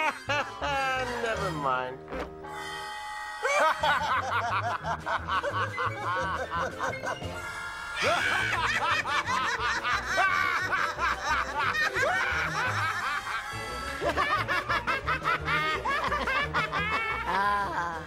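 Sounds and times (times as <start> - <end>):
cartoon characters laughing: 3.4 - 18.0.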